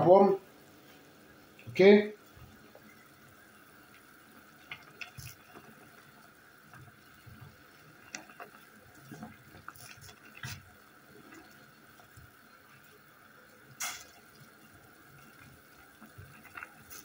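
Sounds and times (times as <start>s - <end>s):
water boiling in a pot: 0.0s - 17.0s
wooden spoon stirring in pot: 0.9s - 17.0s.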